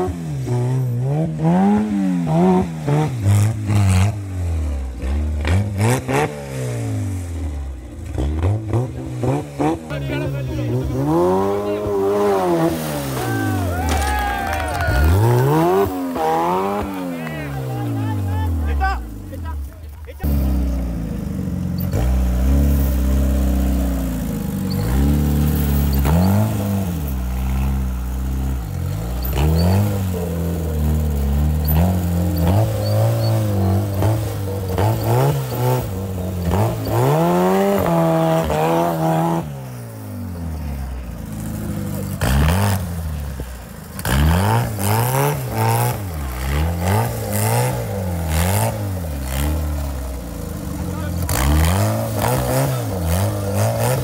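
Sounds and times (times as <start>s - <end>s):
buggy engine revving: 0.0s - 54.0s.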